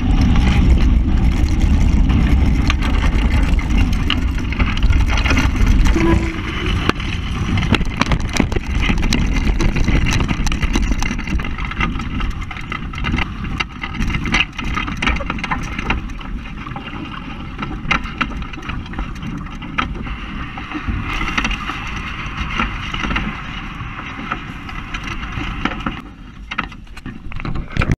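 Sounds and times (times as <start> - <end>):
water rushing along hulls: 0.0 - 27.9
wind buffeting microphone: 0.0 - 27.9.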